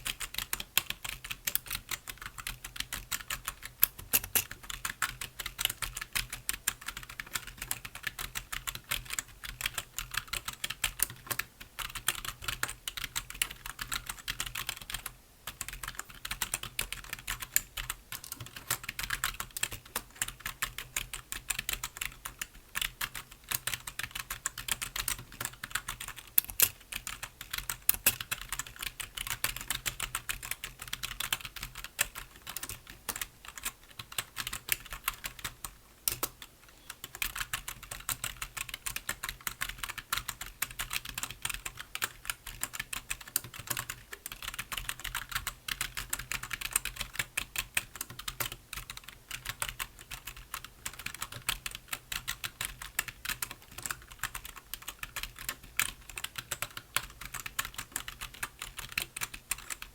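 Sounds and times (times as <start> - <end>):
keyboard typing: 0.0 - 59.9.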